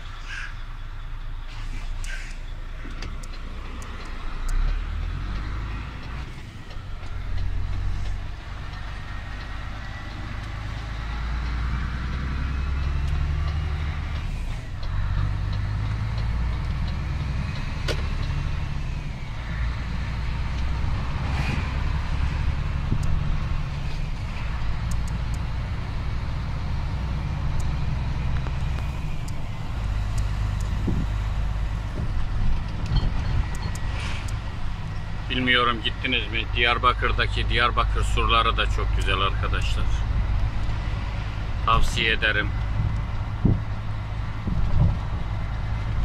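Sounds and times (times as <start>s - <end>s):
diesel engine drone: 0.0s - 46.0s
faint road noise: 0.0s - 46.0s.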